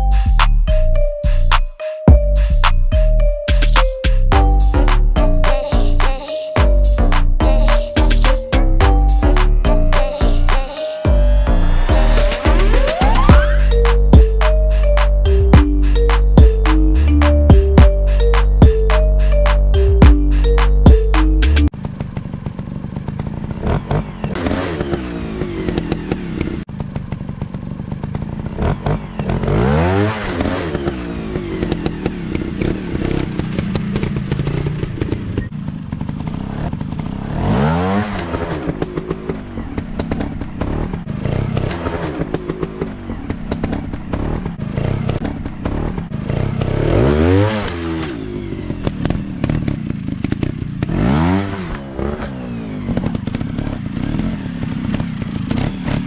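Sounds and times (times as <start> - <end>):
dirt bike engines revving: 6.8 - 56.0.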